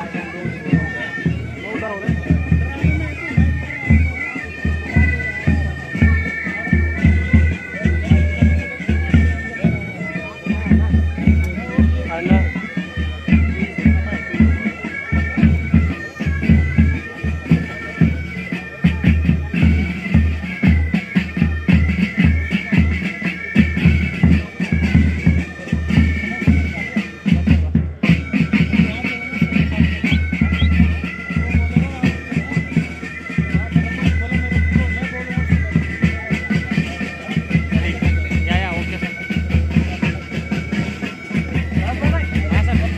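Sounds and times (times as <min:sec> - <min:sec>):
bagpipes playing a march: 0:00.0 - 0:42.9.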